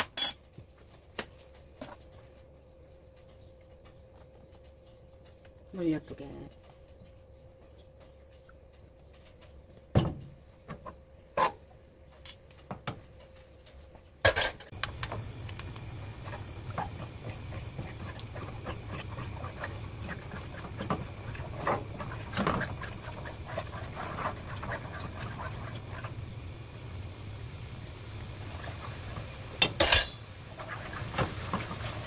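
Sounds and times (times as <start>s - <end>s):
steady low hum: 1.0s - 32.0s.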